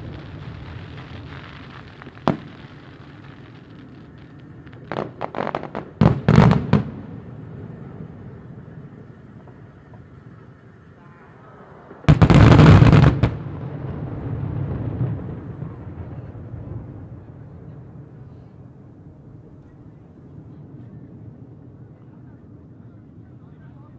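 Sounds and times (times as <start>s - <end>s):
fireworks crackling salvo: 0.0s - 23.9s
rolling rumble of echoes: 0.0s - 23.9s.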